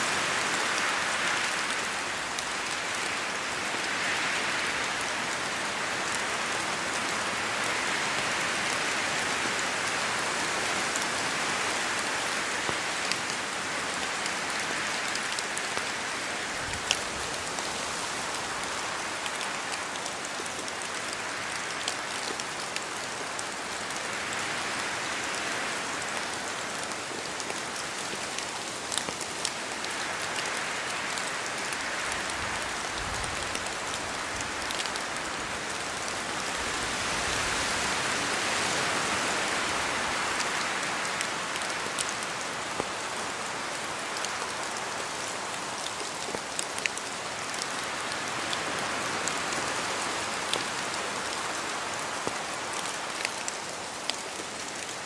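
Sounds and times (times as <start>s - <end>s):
steady rain falling: 0.0s - 55.0s
wind: 0.0s - 55.0s.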